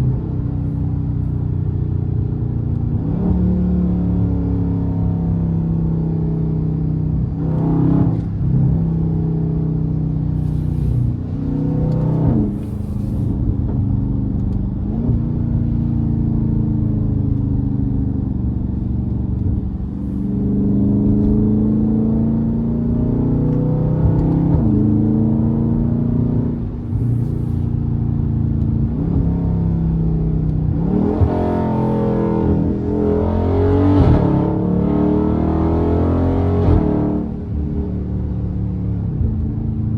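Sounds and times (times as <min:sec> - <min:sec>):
car engine revving: 0:02.8 - 0:39.9.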